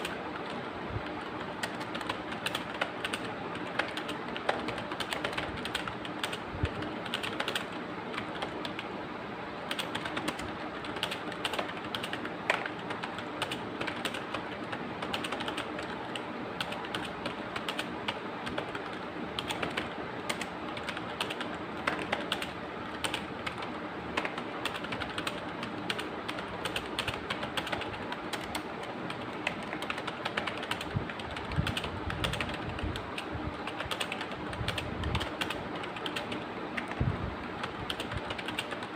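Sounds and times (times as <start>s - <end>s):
fast keyboard typing: 0.0s - 8.9s, 9.5s - 38.9s.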